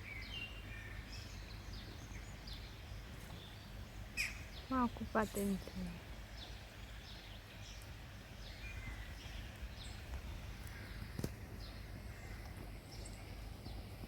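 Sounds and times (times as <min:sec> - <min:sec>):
small bird chirping: 0:00.0 - 0:13.9.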